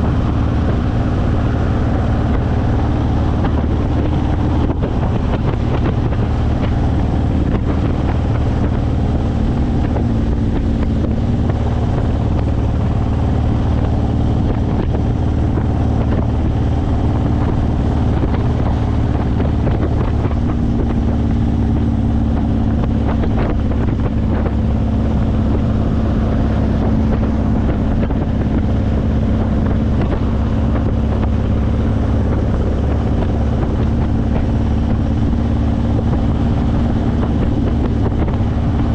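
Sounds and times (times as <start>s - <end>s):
motorcycle engine cruising: 0.0s - 38.9s
wind buffeting microphone: 0.0s - 38.9s.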